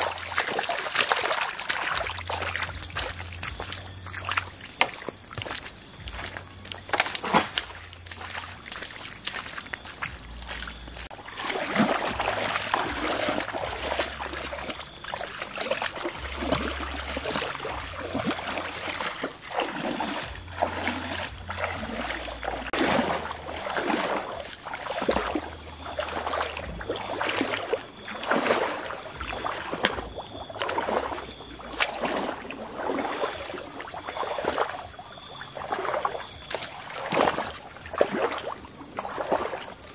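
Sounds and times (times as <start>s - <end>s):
footsteps on muddy path: 0.0s - 39.9s
wading through shallow water: 0.0s - 39.9s.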